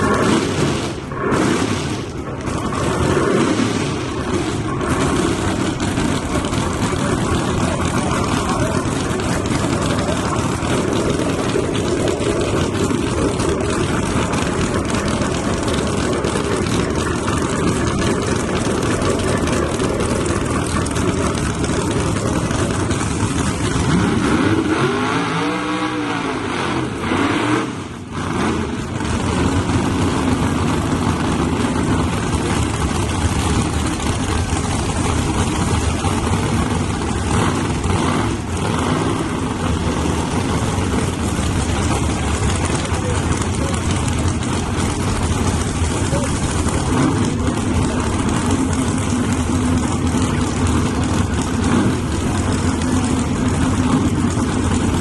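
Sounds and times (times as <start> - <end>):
drag racing car engines: 0.0 - 55.0
engine revving: 0.0 - 55.0.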